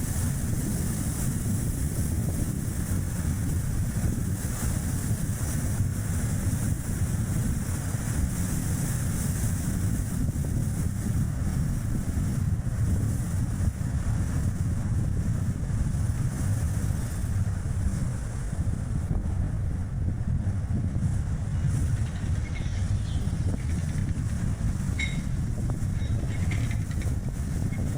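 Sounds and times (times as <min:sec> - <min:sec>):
tyre and road noise: 0:00.0 - 0:27.9
wind buffeting microphone: 0:00.0 - 0:27.9.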